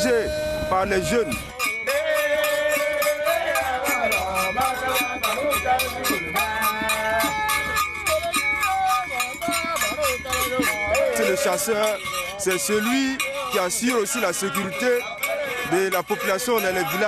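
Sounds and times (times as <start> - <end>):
metal bell beat: 0.0 - 17.0.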